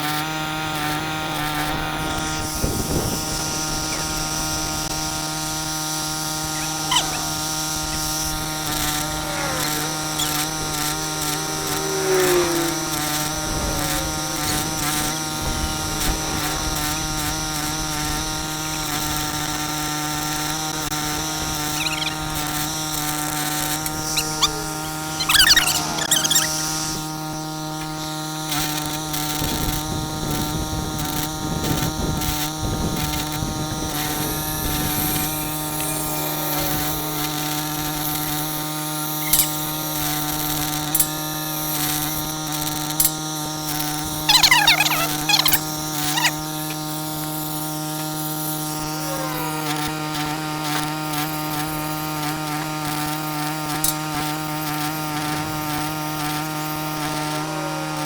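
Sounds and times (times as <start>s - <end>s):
machine droning hum: 0.0s - 58.0s
high gliding whines: 0.5s - 30.3s, 31.7s - 58.0s.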